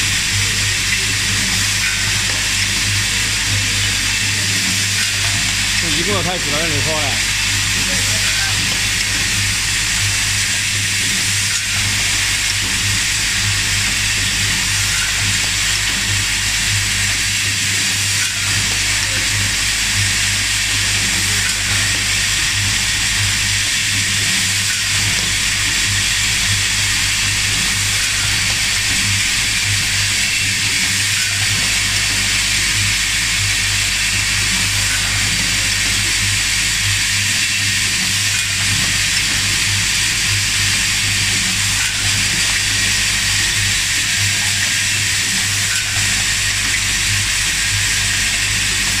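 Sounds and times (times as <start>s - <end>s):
vibratory bowl feeders buzzing: 0.0s - 49.0s.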